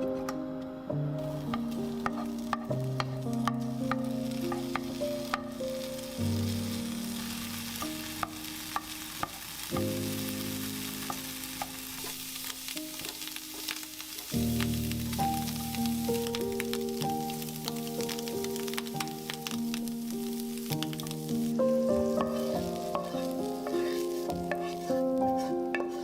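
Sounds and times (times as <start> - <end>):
soft background music: 0.0 - 26.0
food sizzling in a pan: 0.9 - 26.0.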